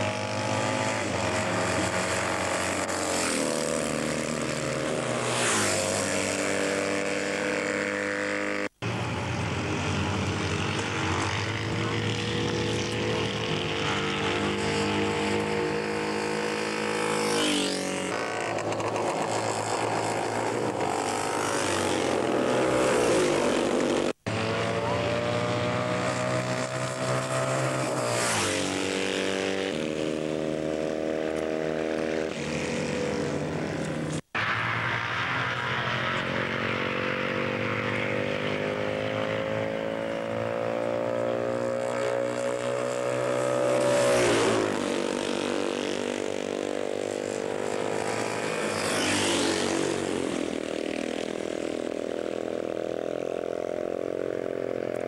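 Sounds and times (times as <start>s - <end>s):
racing motorcycle engines passing: 0.0s - 55.0s.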